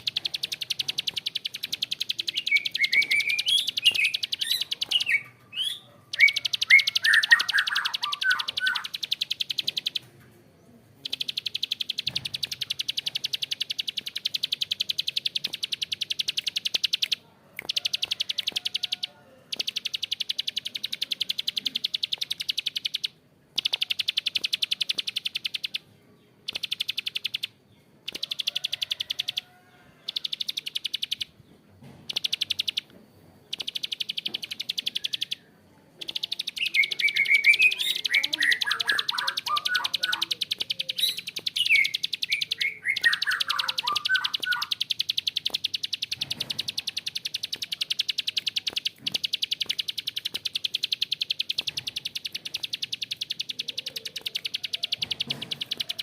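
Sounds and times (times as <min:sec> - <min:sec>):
bird giving fast ticking trills: 0:00.0 - 0:10.0, 0:11.0 - 0:31.3, 0:32.1 - 0:35.4, 0:36.0 - 0:56.0.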